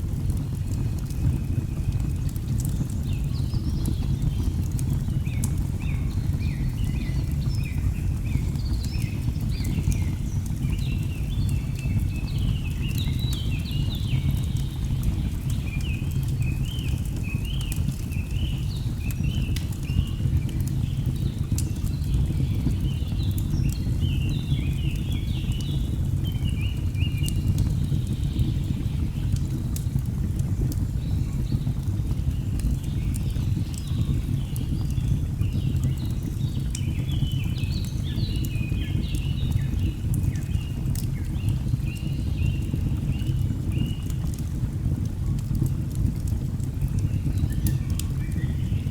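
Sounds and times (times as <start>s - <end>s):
burning logs crackling: 0.0s - 48.9s.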